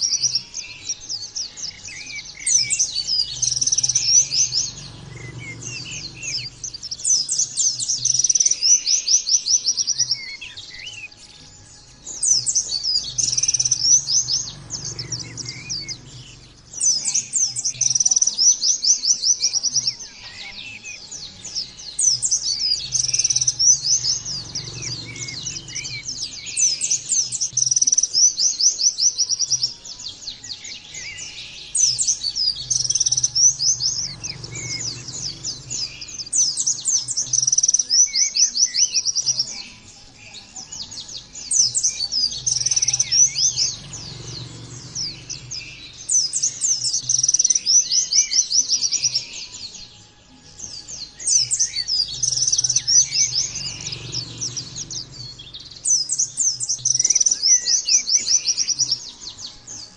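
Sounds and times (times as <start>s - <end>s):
bird high-pitched chattering song: 0.0s - 49.9s, 50.7s - 59.9s.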